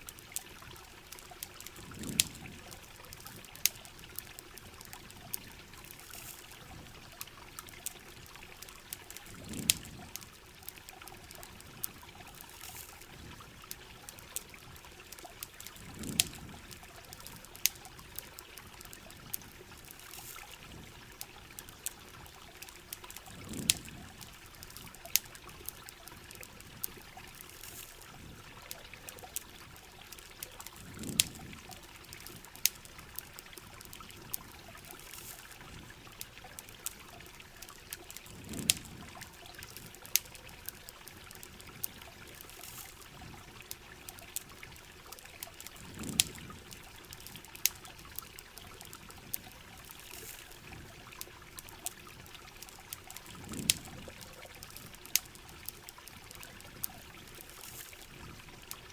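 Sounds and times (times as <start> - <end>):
campfire crackling and popping: 0.0 - 58.9
steady rain: 0.0 - 58.9
water trickling: 0.0 - 58.9.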